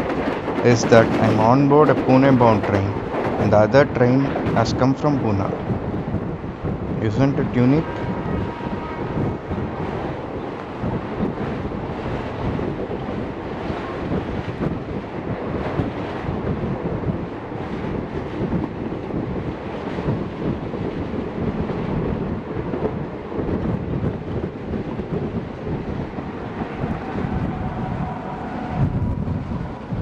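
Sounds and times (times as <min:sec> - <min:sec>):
passenger train rumble: 0:00.0 - 0:30.0
wind buffeting microphone: 0:00.0 - 0:30.0.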